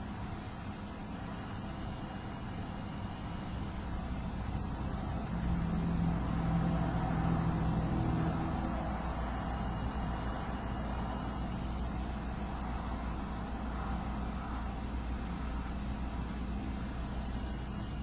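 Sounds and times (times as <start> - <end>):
hard drive whine: 0.0 - 18.0.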